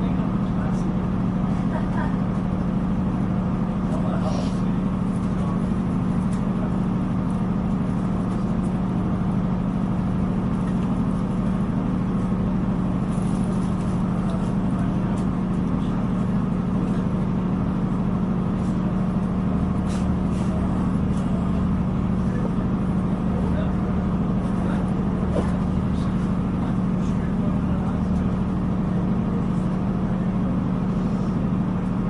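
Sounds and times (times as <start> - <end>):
train running low drone: 0.0 - 32.0.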